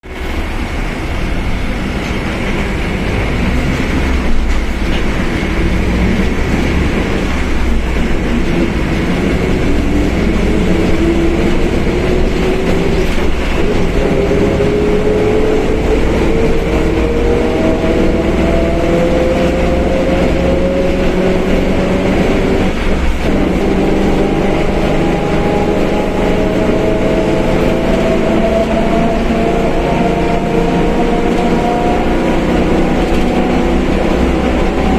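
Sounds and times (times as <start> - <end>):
bus diesel engine running: 0.0 - 34.9
differential whine rising in pitch: 5.6 - 34.9.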